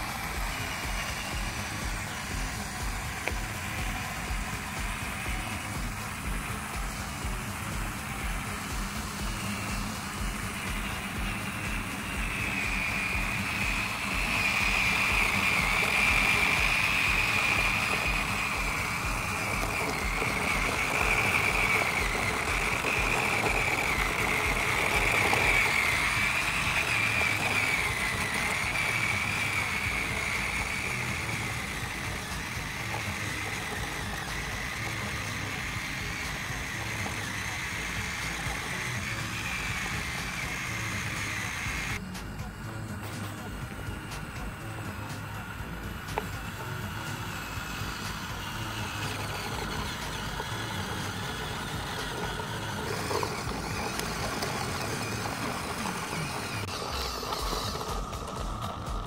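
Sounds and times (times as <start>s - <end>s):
small tiller motor whining: 0.0s - 59.0s.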